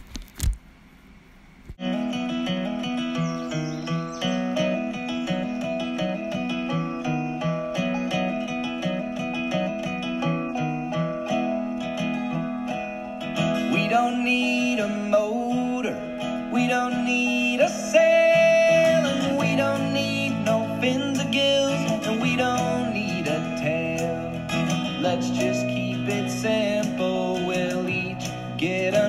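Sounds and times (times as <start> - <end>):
country-folk acoustic guitar music: 1.8 - 29.0.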